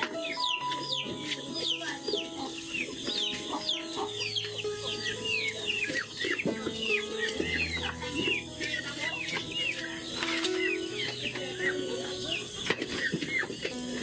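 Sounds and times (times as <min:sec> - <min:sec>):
background music with low notes: 0:00.0 - 0:14.0
chickens chirping: 0:00.0 - 0:14.0.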